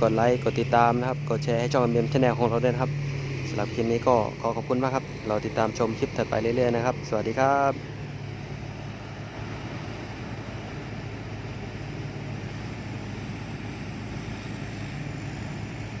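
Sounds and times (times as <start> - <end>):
diesel engine low hum: 0.0 - 16.0.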